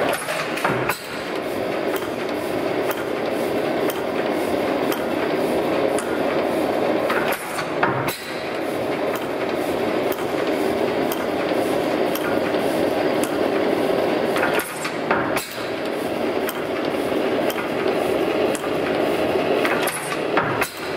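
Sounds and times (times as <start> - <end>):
stationary engine clattering: 0.0 - 20.9.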